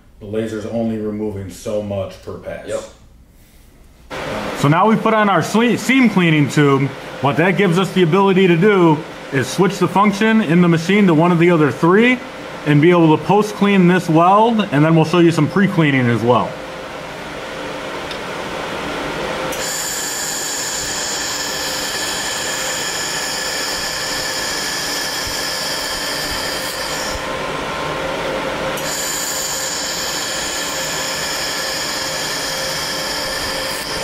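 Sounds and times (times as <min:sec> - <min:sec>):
machine hum: 0:00.0 - 0:34.0
high whine: 0:04.1 - 0:34.0.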